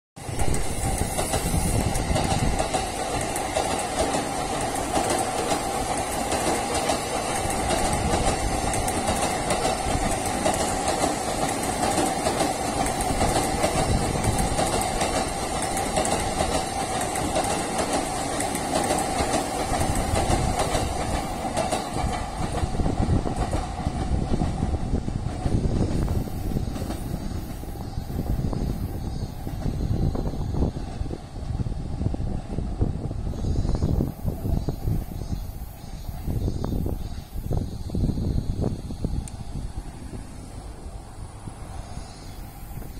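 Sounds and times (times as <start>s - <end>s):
electric train running on tracks: 0.2s - 42.9s.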